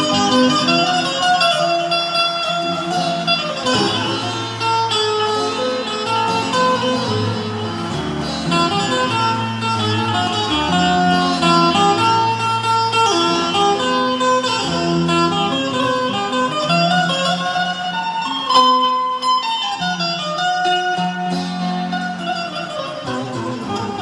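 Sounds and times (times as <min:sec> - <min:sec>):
amplified plucked zither melody: 0:00.0 - 0:24.0.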